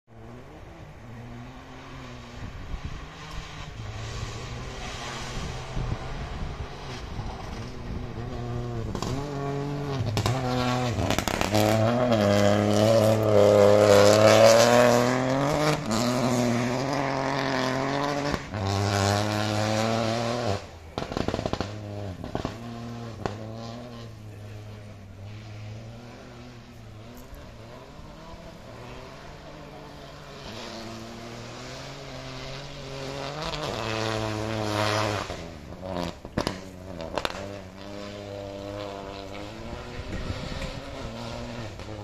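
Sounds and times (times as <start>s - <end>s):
rally car engine passing by: 0.1s - 42.0s.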